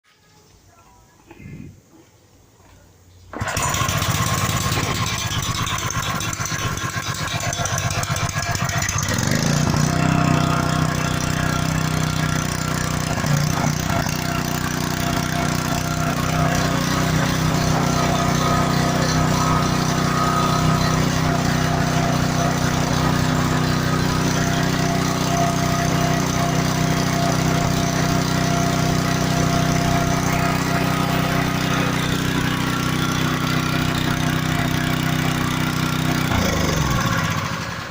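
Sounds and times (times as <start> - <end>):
pressure washer engine running: 3.3 - 37.9.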